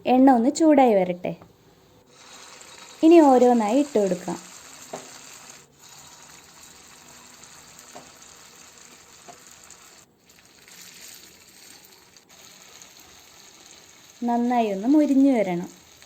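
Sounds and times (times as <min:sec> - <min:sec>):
food sizzling in hot oil: 0:02.1 - 0:16.0.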